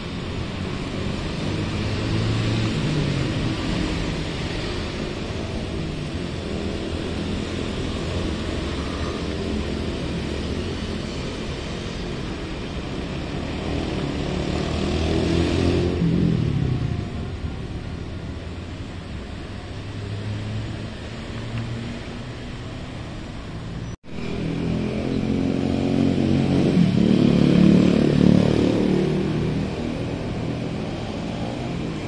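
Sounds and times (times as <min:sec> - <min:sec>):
traffic engine hum: 0:00.0 - 0:32.0
traffic rushing hiss: 0:00.0 - 0:32.0.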